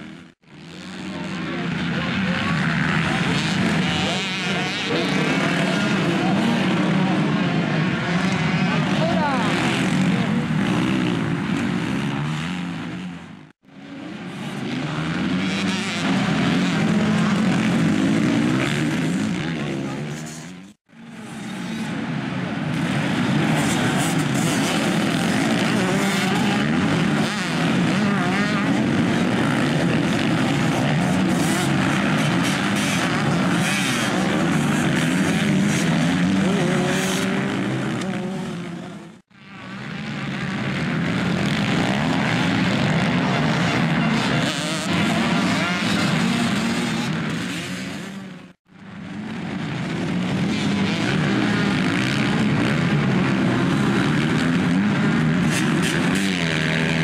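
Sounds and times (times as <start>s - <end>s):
motocross bikes racing: 0.0s - 57.0s.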